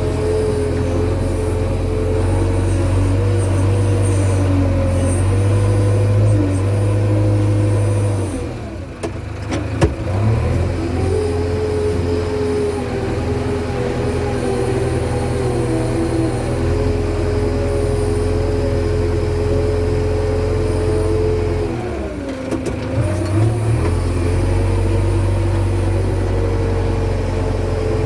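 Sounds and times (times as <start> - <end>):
backhoe diesel engine running: 0.0 - 28.0.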